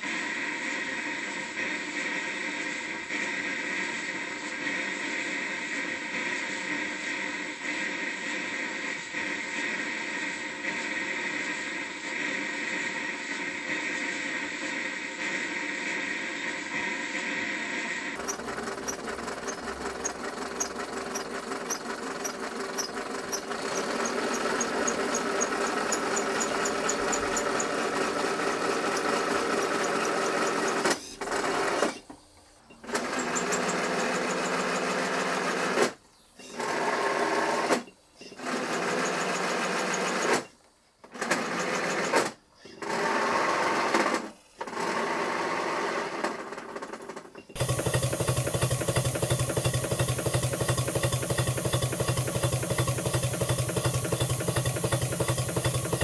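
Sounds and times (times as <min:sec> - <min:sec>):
larger steam engine running: 0:00.0 - 0:40.5, 0:41.2 - 0:56.0
small steam engine clattering: 0:00.0 - 0:56.0.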